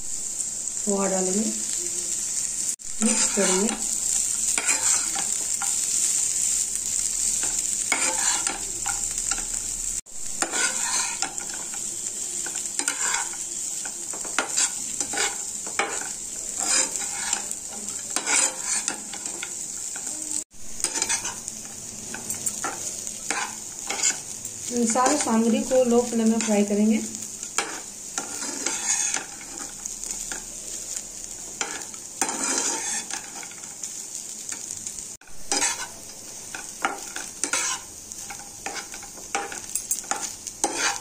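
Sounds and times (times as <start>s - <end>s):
frying sizzle: 0.0s - 41.0s
spatula scraping frying pan: 3.0s - 9.6s, 10.4s - 34.8s, 35.4s - 41.0s.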